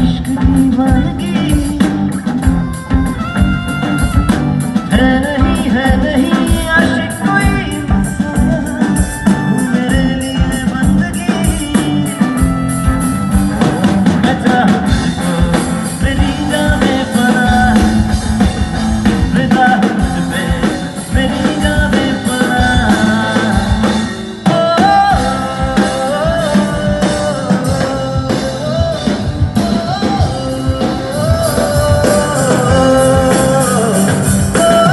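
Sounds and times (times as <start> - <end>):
drum kit beat: 0.0 - 34.9
guitar: 0.0 - 34.9
person singing: 0.0 - 34.9.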